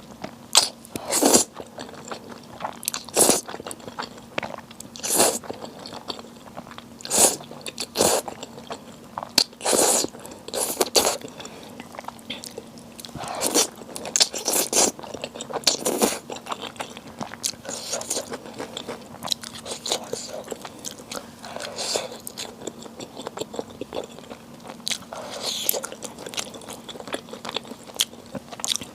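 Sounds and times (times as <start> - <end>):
person chewing crunchy food: 0.0 - 28.9.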